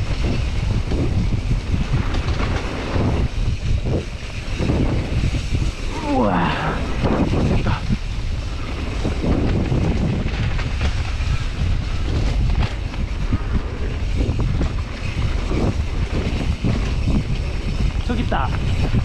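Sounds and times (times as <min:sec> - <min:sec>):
bike knocks and rattles: 0:00.0 - 0:05.9, 0:07.0 - 0:19.0
bike rumbling downhill: 0:00.0 - 0:19.0
wind rushing over microphone: 0:00.0 - 0:19.0.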